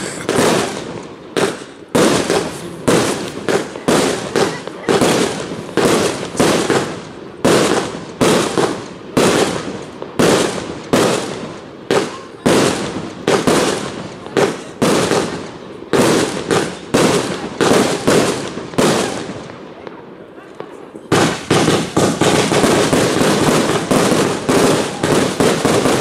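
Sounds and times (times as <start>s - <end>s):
fireworks firing sharp reports: 0.0s - 26.0s.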